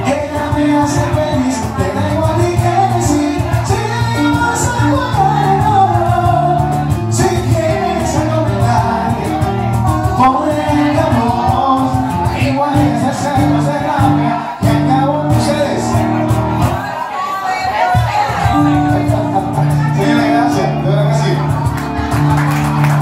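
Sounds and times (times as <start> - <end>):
man singing into microphone: 0.0 - 16.9, 18.0 - 21.7
backing music with bass and beat: 0.0 - 17.0, 17.9 - 23.0.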